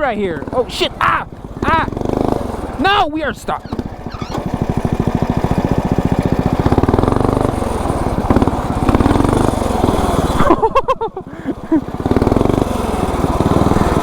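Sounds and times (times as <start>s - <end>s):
small engine running: 0.0s - 3.0s, 3.6s - 14.0s.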